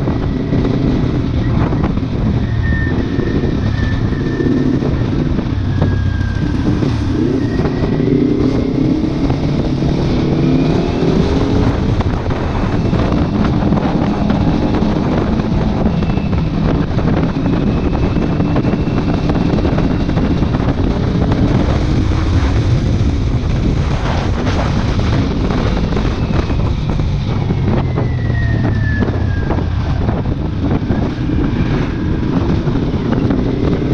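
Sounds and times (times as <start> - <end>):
motorcycle engine revving: 0.0 - 33.9
wind noise on microphone: 0.0 - 33.9.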